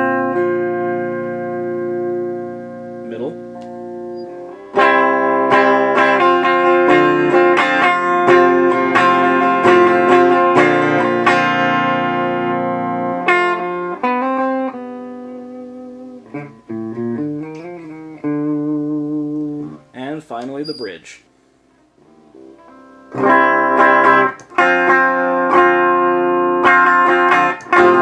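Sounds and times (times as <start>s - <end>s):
clean electric guitar: 0.0s - 20.8s, 21.9s - 28.0s.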